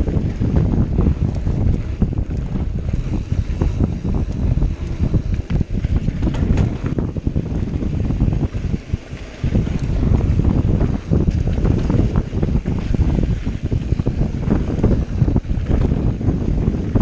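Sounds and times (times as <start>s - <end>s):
bike rattling over bumps: 0.0s - 17.0s
low rumble of tyres: 0.0s - 17.0s
wind buffeting microphone: 0.0s - 17.0s.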